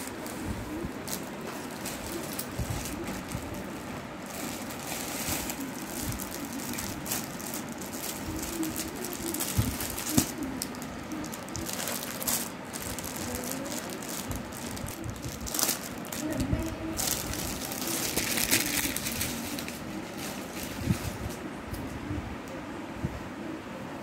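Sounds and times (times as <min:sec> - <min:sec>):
plastic packaging crinkling: 0:00.0 - 0:21.4
sharp plastic crackle: 0:00.0 - 0:21.4.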